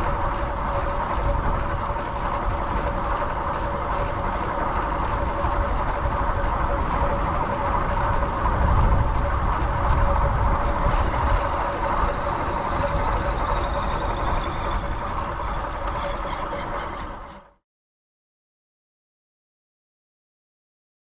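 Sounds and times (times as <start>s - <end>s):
vehicle rumble with whine: 0.0s - 17.6s.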